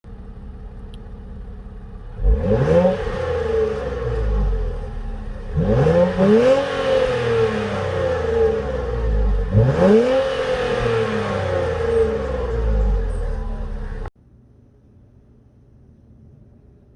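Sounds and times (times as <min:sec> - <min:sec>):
car exhaust revving: 0:00.1 - 0:14.1.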